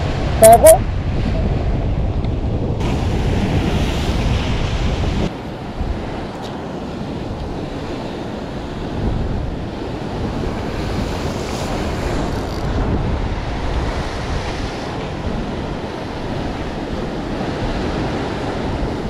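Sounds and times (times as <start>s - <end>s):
wind buffeting microphone: 0.0s - 19.0s
rough sea breaking on rocks: 2.4s - 19.0s.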